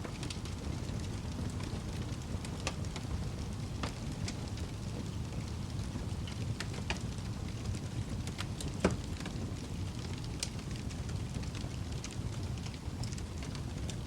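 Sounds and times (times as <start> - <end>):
fire crackles and pops: 0.0 - 14.0
wood fire flames rushing: 0.0 - 14.0.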